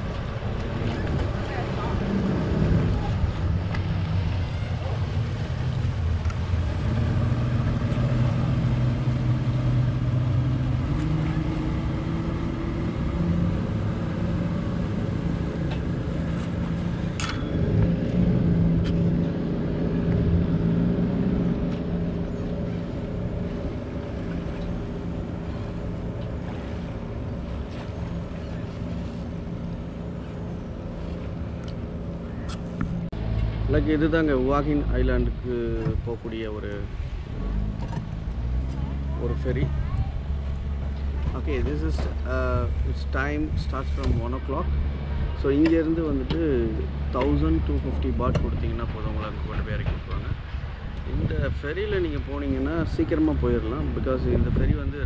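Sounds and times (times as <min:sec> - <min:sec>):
speedboat engines humming: 0:00.0 - 0:55.0.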